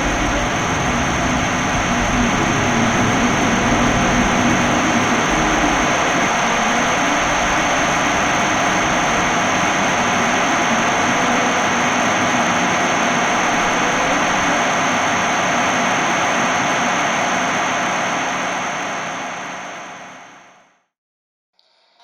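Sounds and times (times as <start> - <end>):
low hum: 0.0 - 19.5
dense wall of noise: 0.0 - 20.5.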